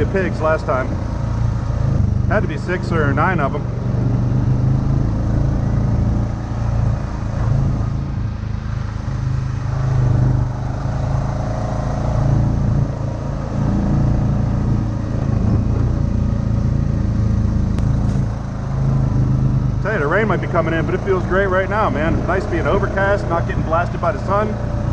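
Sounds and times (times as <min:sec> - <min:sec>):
quad bike engine running: 0:00.0 - 0:24.9.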